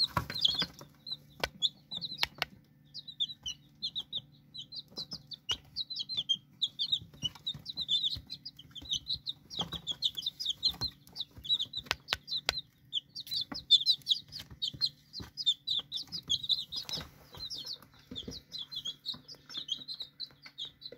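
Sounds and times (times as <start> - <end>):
chicks peeping: 0.0 - 20.9.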